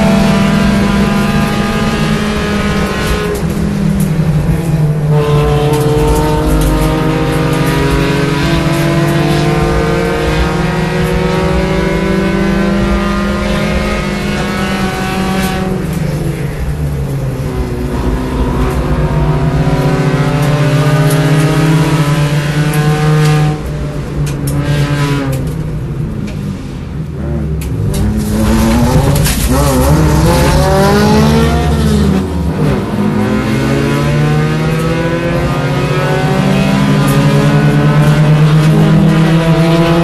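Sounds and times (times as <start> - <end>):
race car engine from inside cabin: 0.0 - 40.0.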